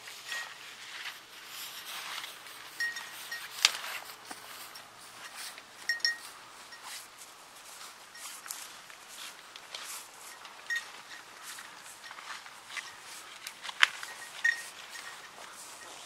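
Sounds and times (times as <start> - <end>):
dry corn stalks rustling: 0.0 - 16.0.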